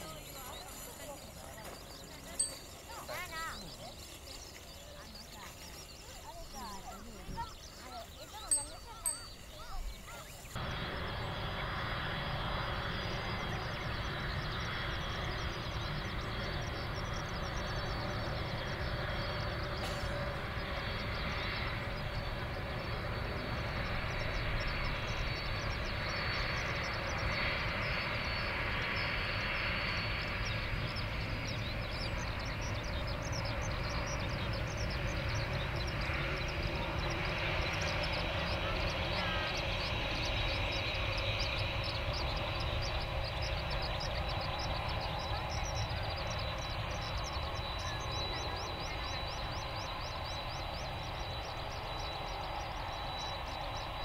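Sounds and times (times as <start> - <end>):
jet engines rumbling: 0.0 - 54.0
high even whine: 8.4 - 54.0.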